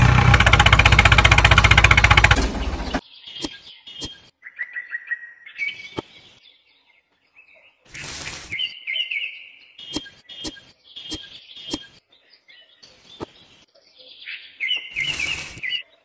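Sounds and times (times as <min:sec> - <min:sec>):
small birds chirping: 0:02.1 - 0:16.0.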